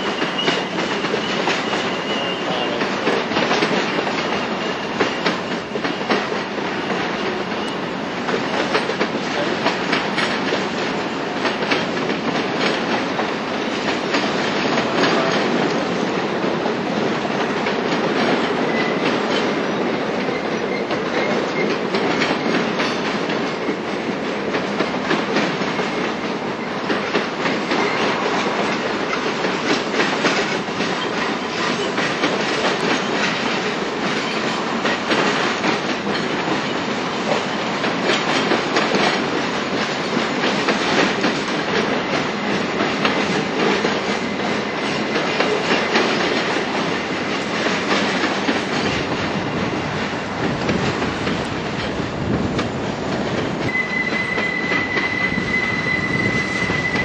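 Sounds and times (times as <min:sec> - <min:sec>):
freight train wheels clicking: 0:00.0 - 0:57.0.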